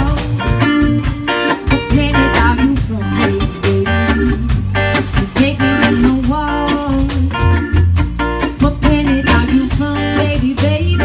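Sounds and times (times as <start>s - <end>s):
drum kit beat: 0.0s - 11.0s
electric bass: 0.0s - 11.0s
electric guitars: 0.0s - 11.0s
keyboards: 0.0s - 11.0s.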